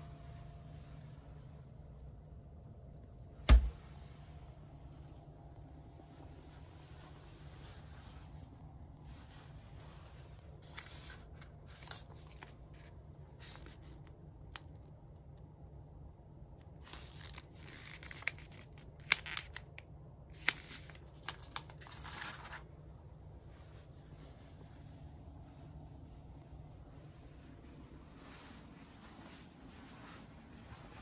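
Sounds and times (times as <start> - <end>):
rustling and crinkling: 0.0 - 15.6, 16.5 - 31.0
steady low hum: 0.0 - 31.0.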